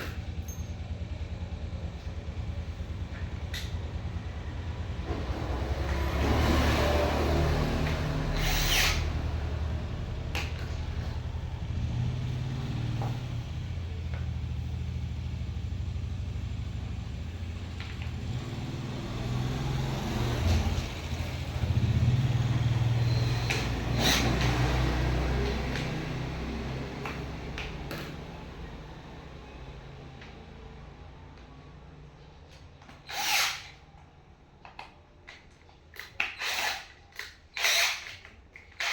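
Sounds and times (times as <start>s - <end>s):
low motor rumble: 0.0s - 32.3s.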